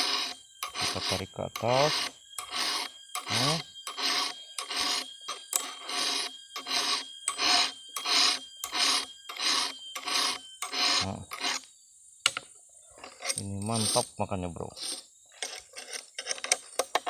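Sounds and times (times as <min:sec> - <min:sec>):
file rasping on chainsaw chain: 0:00.0 - 0:11.7, 0:12.9 - 0:17.0.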